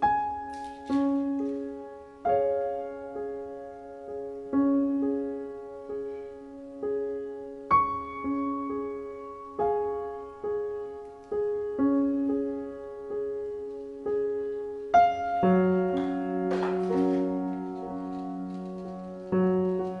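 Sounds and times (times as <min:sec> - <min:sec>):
soft solo piano music: 0:00.0 - 0:20.0.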